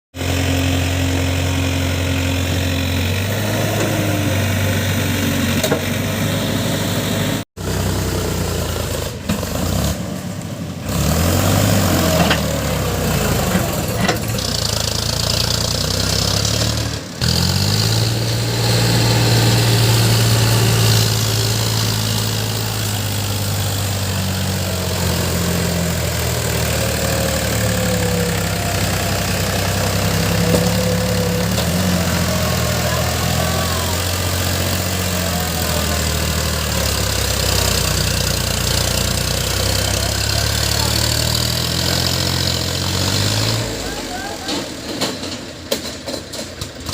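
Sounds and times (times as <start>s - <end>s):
diesel engine of backhoe loader: 0.1s - 46.9s.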